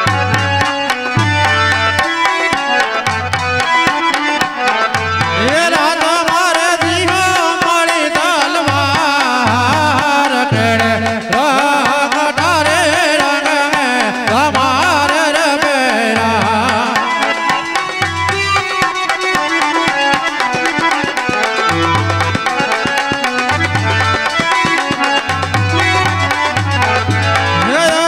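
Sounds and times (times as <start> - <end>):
ornamented melody line: 0.0 - 28.0.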